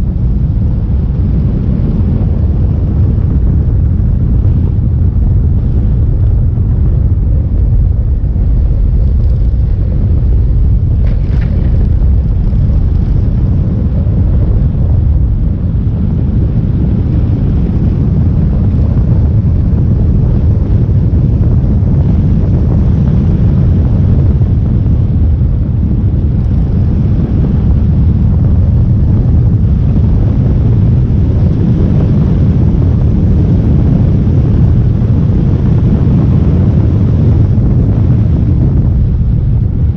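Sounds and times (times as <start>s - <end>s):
motorcycle road rumble: 0.0s - 39.9s
wind on microphone: 0.0s - 39.9s.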